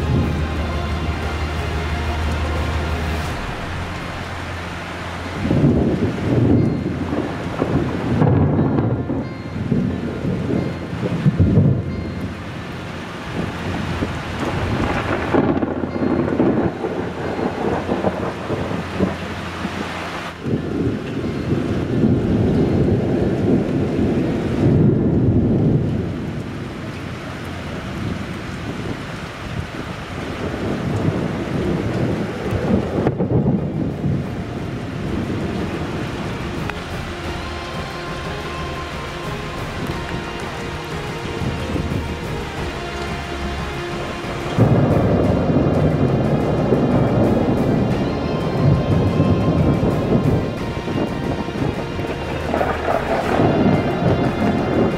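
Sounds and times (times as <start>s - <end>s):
steady rain: 0.0s - 54.9s
thunder rumbling: 0.0s - 54.9s.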